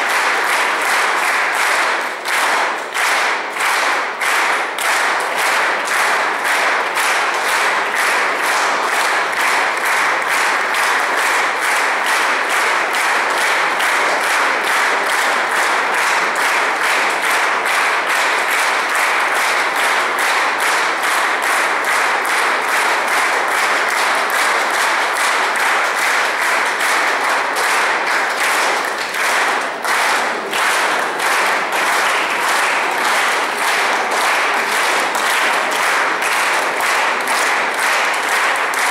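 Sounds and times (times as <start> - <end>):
audience clapping in rhythm: 0.0 - 38.9.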